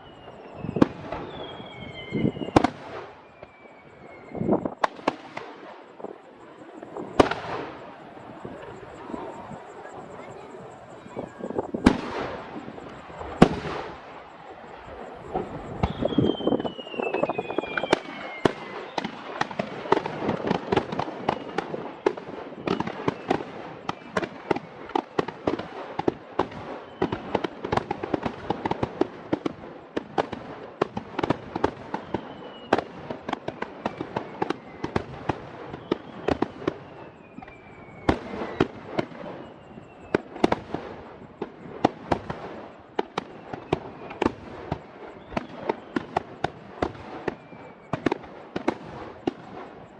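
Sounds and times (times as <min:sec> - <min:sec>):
falling firework whistles: 0:00.0 - 0:49.9
fireworks bangs and crackles: 0:00.0 - 0:49.9.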